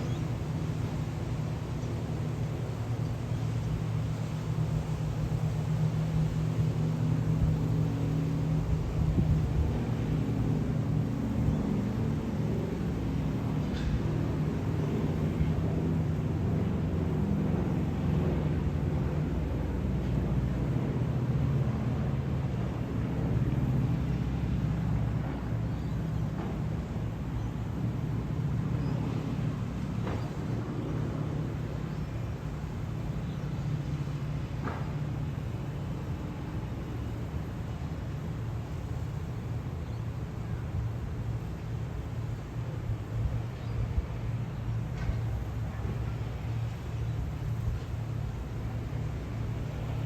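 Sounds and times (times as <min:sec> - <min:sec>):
airplane engines droning overhead: 0:00.0 - 0:50.0.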